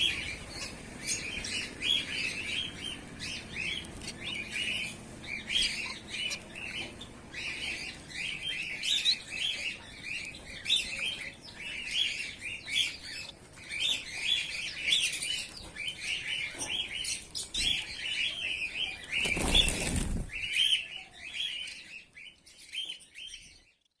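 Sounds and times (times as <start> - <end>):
finches chirping: 0.0 - 24.0.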